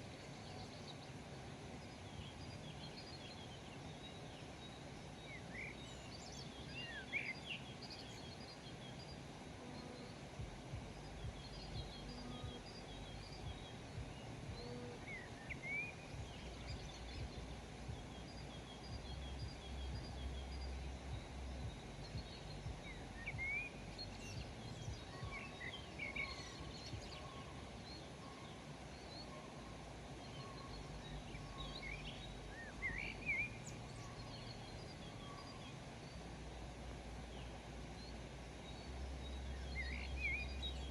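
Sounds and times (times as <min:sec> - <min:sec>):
low outdoor rumble: 0:00.0 - 0:40.9
small birds chirping: 0:00.0 - 0:40.9.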